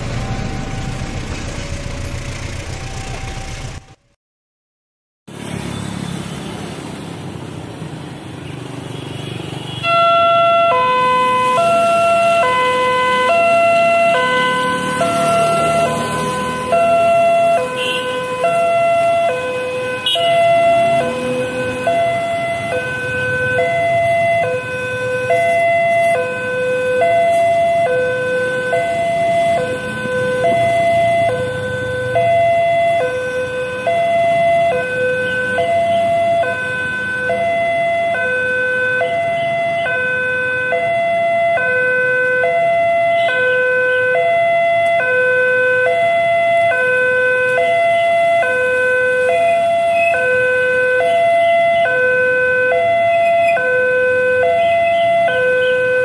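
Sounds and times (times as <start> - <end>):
two-tone level crossing siren: 0.0 - 4.1, 9.8 - 56.0
road traffic rumble: 0.0 - 4.2, 5.3 - 56.0.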